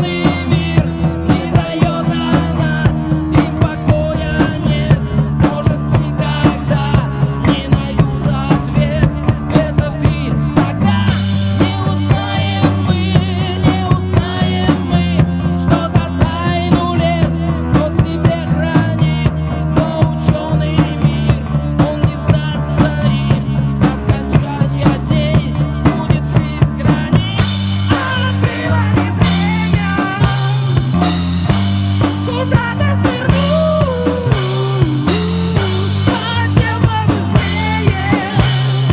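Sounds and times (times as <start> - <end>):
rock band playing instrumental: 0.0 - 38.9.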